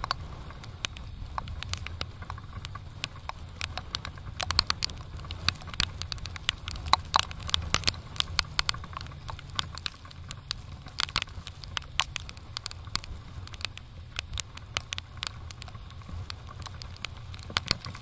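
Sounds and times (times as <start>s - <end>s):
motorcycle engine rumble: 0.0s - 18.0s
raindrops ticking on microphone: 0.0s - 18.0s
wind: 0.0s - 18.0s.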